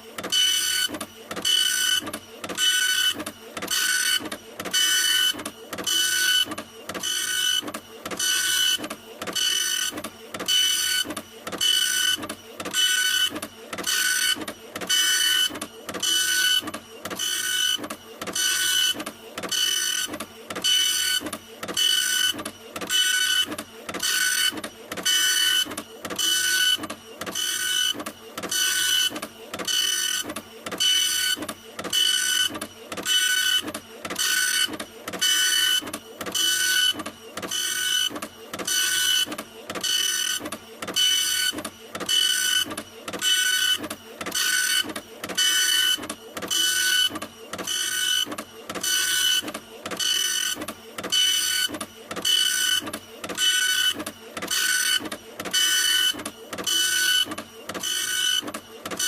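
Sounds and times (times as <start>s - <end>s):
printer mechanism moving: 0.2s - 59.0s.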